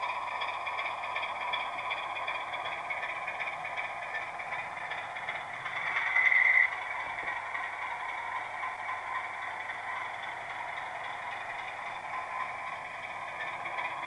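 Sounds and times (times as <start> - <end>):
model diesel engine sound: 0.0 - 14.0.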